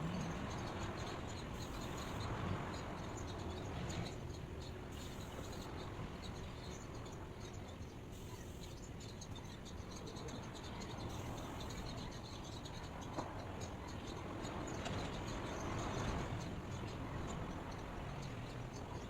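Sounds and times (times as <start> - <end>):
low rumble and hiss: 0.0 - 19.0.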